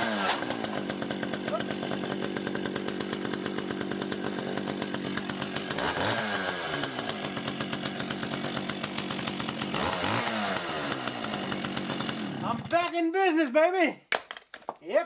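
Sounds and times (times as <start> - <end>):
chainsaw idling and revving: 0.0 - 13.1.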